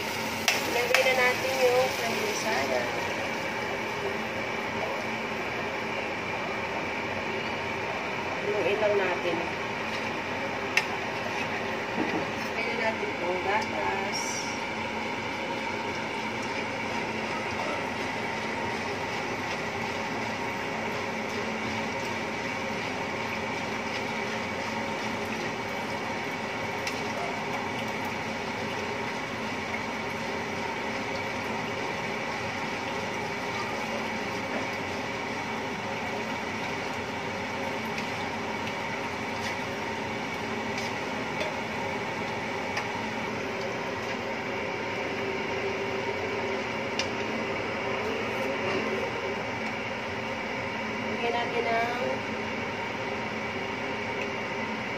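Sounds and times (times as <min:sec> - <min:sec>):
steady hum and hiss: 0:00.0 - 0:54.9.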